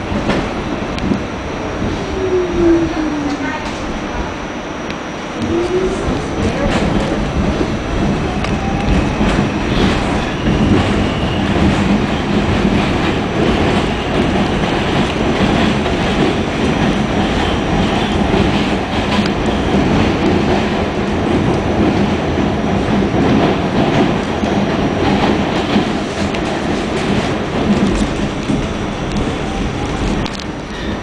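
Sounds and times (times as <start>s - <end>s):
clickety-clack of rail joints: 0.0s - 1.2s, 5.4s - 31.0s
steel wheels rumbling on rail: 0.0s - 31.0s.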